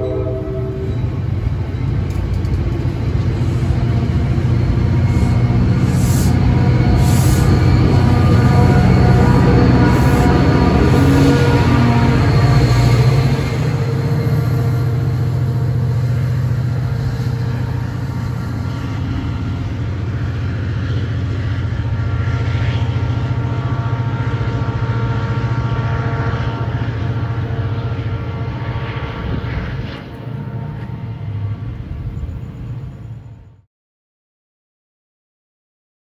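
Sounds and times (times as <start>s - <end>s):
diesel locomotive engine: 0.0s - 33.7s.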